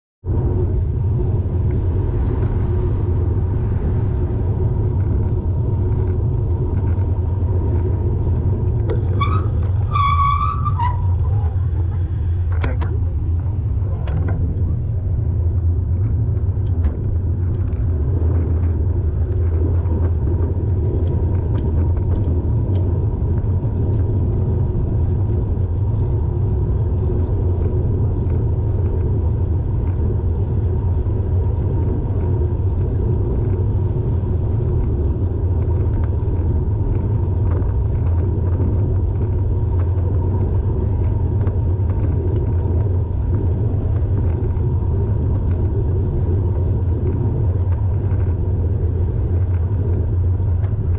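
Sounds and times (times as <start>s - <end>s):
car interior rumble: 0.2s - 50.9s.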